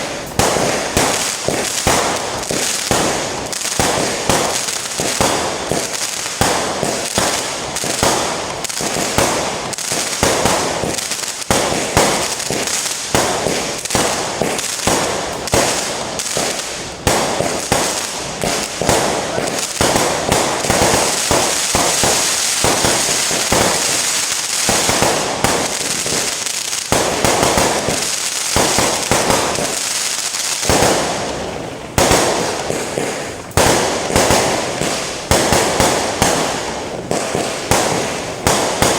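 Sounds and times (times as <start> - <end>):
fireworks bangs and crackle: 0.0 - 38.9.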